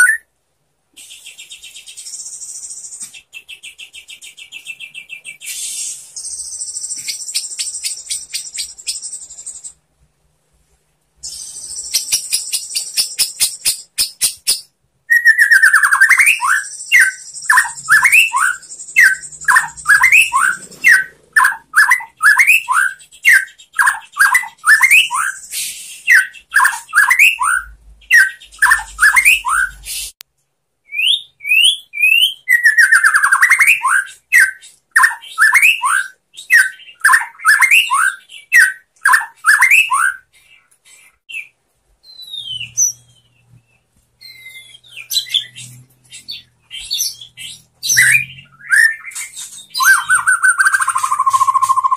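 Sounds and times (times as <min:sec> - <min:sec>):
bird whistling song: 0:00.0 - 0:00.3, 0:01.0 - 0:09.8, 0:11.2 - 0:30.2, 0:30.9 - 0:51.9.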